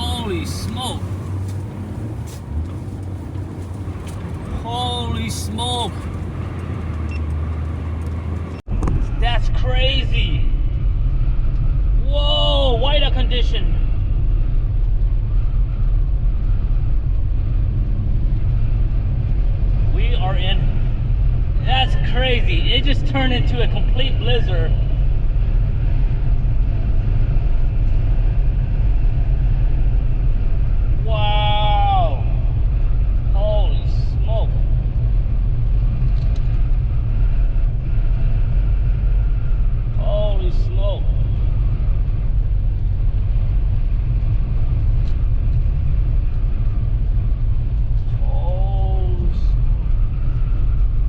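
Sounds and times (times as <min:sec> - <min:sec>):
road noise inside car cabin: 0:00.0 - 0:51.0
strong wind buffeting vehicle: 0:00.0 - 0:51.0.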